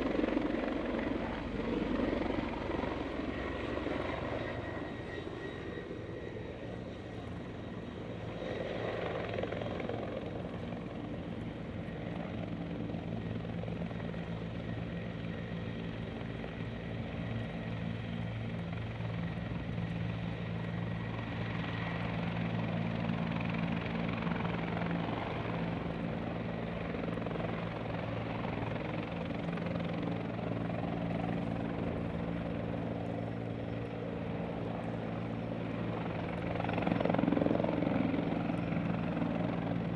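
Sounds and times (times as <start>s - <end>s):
propeller aircraft engine running: 0.0s - 39.9s.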